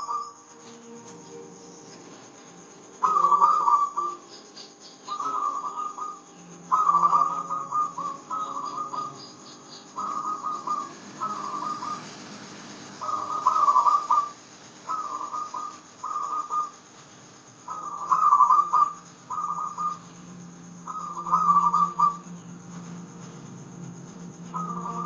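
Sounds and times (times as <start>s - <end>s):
dove cooing: 0.0s - 1.3s, 2.9s - 16.9s, 17.5s - 22.7s, 24.3s - 25.0s.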